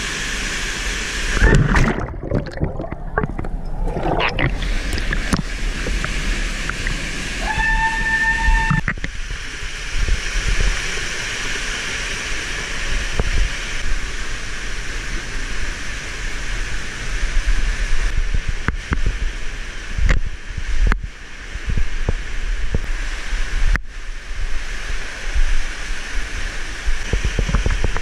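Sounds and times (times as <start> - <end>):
stream and waterfall rushing: 2.7 - 27.8.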